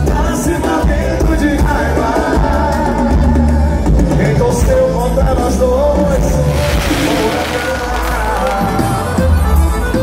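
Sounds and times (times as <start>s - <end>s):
person singing: 0.0s - 9.4s
drums: 0.0s - 10.0s
live band playing loudly: 0.0s - 10.0s.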